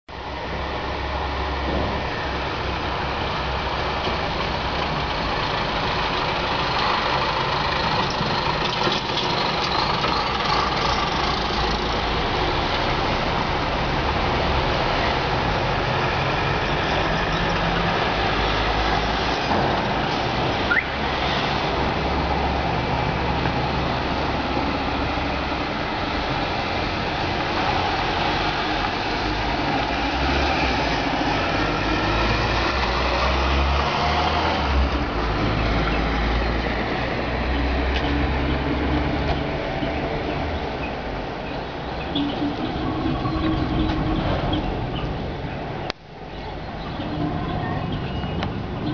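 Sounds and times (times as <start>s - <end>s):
engine and traffic noise: 0.1s - 48.9s.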